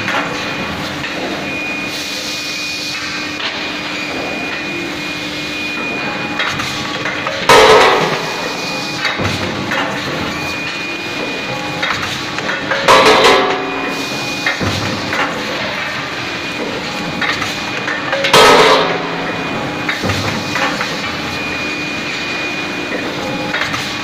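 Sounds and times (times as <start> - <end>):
machine mechanical hum: 0.0 - 24.0.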